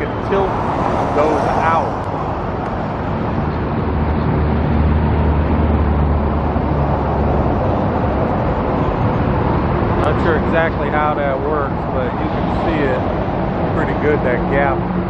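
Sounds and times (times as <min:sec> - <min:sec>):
heavy vehicle engine drone: 0:00.0 - 0:15.0
road traffic passing: 0:00.0 - 0:15.0.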